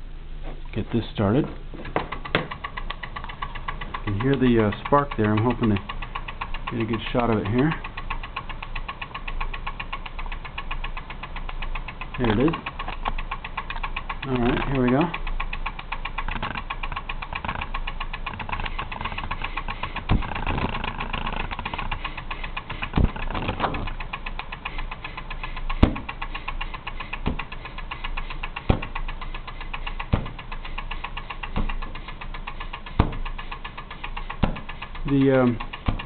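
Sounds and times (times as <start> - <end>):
engine pops: 0.4 - 36.0.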